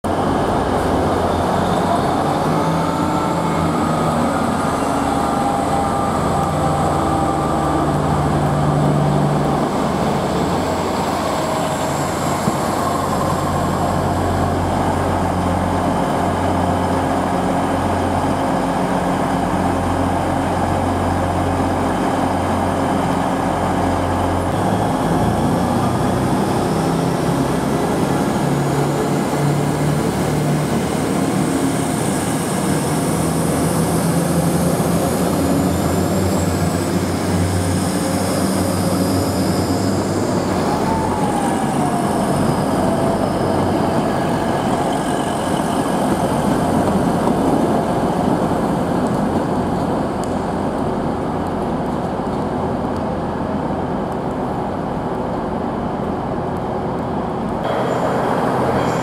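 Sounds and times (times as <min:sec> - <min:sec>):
diesel train engines droning: 0:00.0 - 0:59.0.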